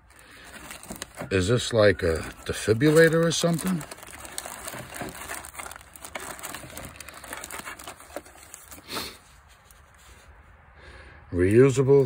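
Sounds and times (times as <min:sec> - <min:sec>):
plastic rustle: 0:00.0 - 0:10.3
plastic wrapping crinkling: 0:00.0 - 0:10.3.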